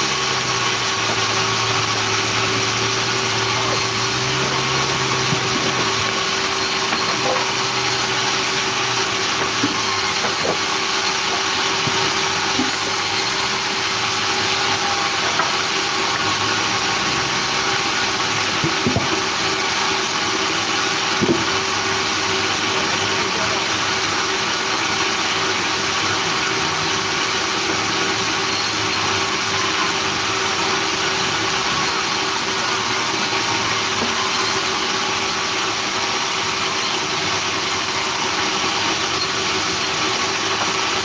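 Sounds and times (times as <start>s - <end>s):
sawmill machinery drone: 0.0s - 41.0s.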